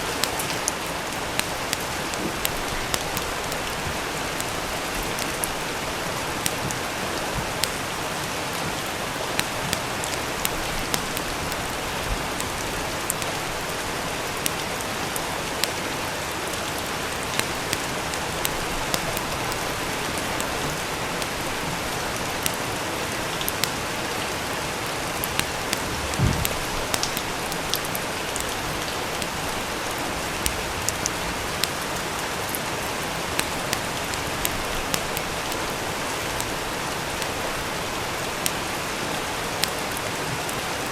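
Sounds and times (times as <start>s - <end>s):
rain hiss: 0.0s - 40.9s
wood fire crackling and popping: 0.1s - 38.6s.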